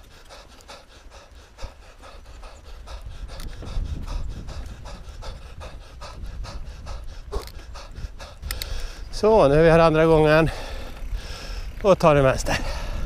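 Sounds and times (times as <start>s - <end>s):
person breathing hard: 0.0s - 9.2s, 10.4s - 11.8s, 12.5s - 13.0s
low rumble of bike riding: 0.0s - 13.0s.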